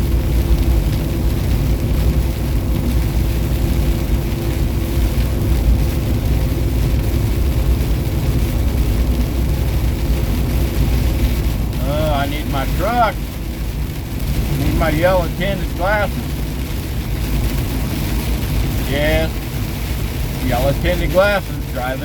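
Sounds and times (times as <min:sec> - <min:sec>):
road noise: 0:00.0 - 0:22.0
truck diesel engine drone: 0:00.0 - 0:22.0.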